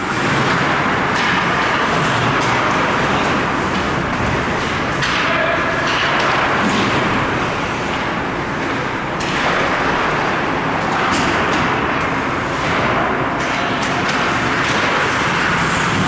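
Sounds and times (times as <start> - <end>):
arena noise: 0.0 - 16.0.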